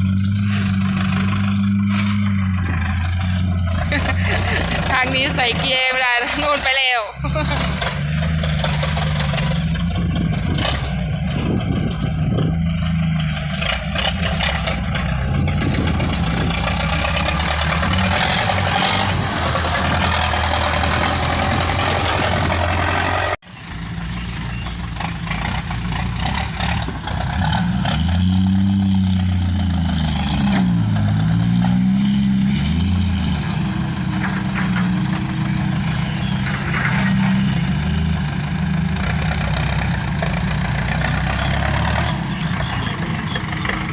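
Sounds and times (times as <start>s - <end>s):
large engine running and revving: 0.0s - 43.9s.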